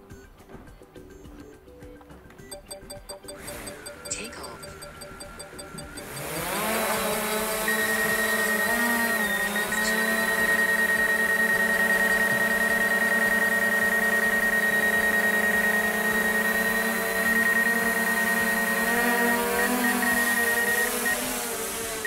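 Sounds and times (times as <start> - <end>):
drone propellers whining: 3.3 - 22.0.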